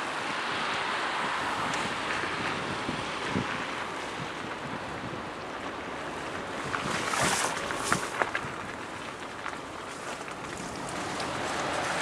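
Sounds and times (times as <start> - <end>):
car tyres hissing on wet road: 0.0 - 12.0.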